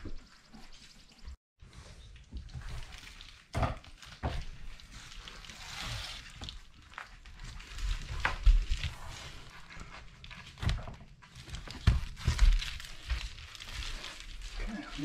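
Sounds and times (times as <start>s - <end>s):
underlayment rustling: 3.0s - 15.0s.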